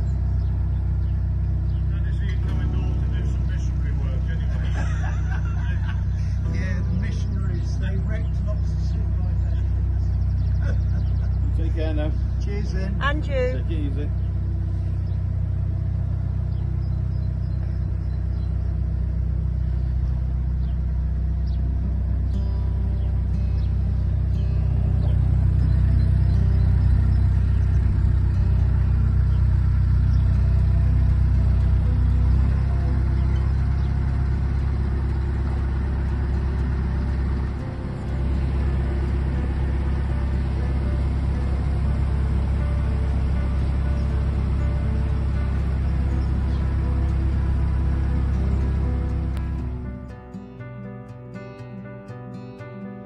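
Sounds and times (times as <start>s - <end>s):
diesel engine rumbling: 0.0s - 52.7s.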